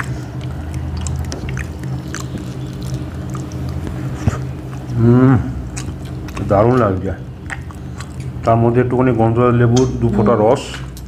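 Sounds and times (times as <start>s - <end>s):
voiced murmur: 0.0s - 10.6s
chewing with wet clicks: 0.0s - 11.0s
steady low hum: 0.0s - 11.0s.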